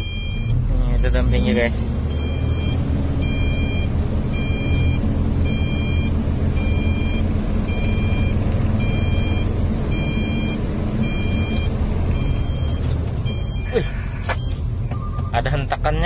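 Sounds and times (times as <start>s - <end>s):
truck warning beeper: 0.0s - 15.4s
diesel engine rumble: 0.0s - 16.0s.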